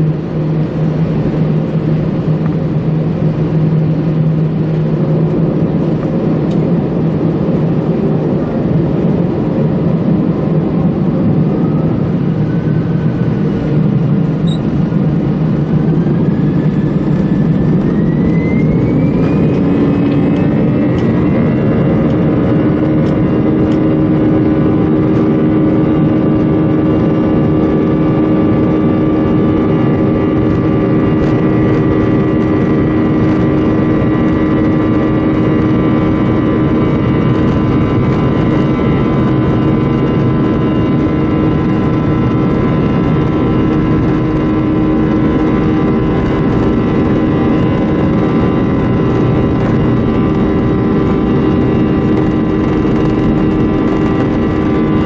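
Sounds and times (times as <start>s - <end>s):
jet engines heard from cabin: 0.0s - 55.0s
rising engine whine: 0.0s - 55.0s.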